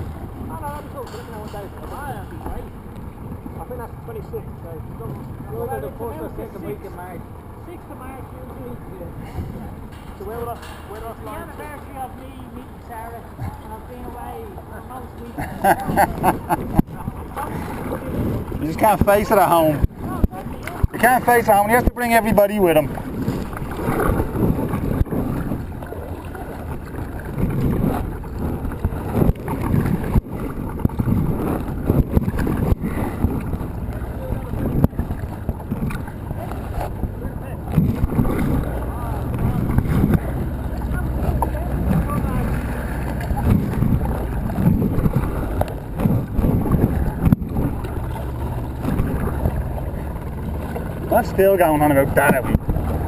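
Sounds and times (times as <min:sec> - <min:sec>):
water sloshing around kayak: 0:00.0 - 0:53.0
wind buffeting microphone: 0:00.0 - 0:53.0.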